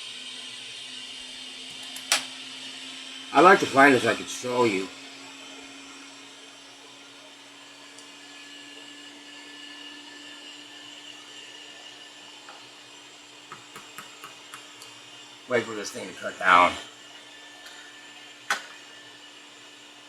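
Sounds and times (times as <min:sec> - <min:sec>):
hot air blower hissing: 0:00.0 - 0:20.0.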